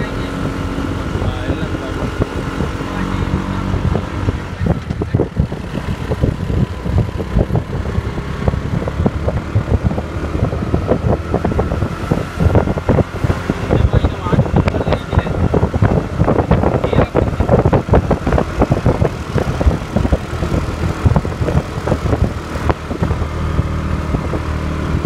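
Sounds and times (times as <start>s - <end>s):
vehicle engine and road drone: 0.0s - 25.0s.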